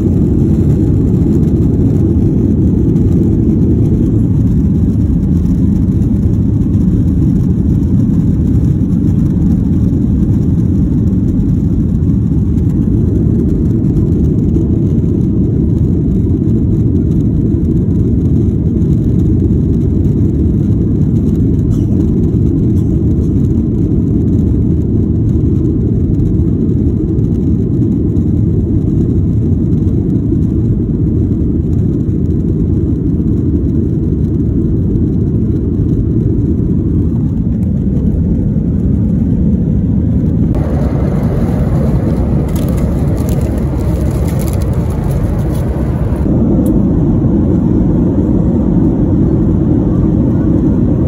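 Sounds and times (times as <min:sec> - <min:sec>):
airliner cabin rumble: 0:00.0 - 0:51.0.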